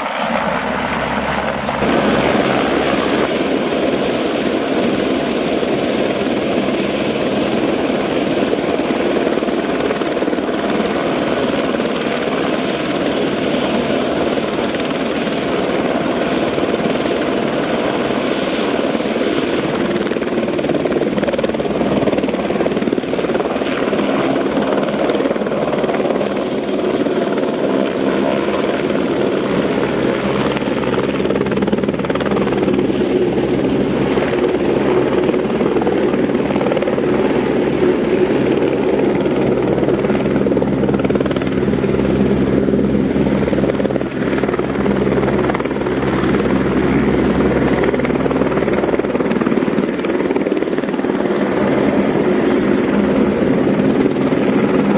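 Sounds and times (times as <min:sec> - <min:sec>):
helicopter turbine and rotor: 0:00.0 - 0:54.9.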